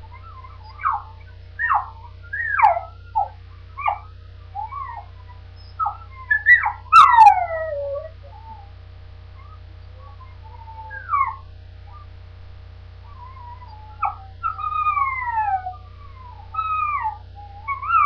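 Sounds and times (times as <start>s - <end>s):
dog whimpering: 0.0s - 8.8s, 9.4s - 12.1s, 13.0s - 18.0s.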